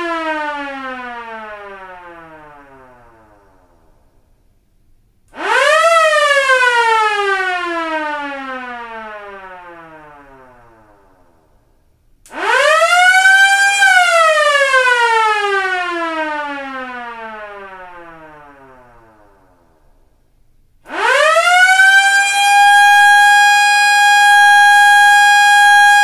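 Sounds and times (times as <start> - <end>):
police siren wailing: 0.0 - 3.5, 5.4 - 11.2, 12.3 - 19.5, 20.9 - 26.0.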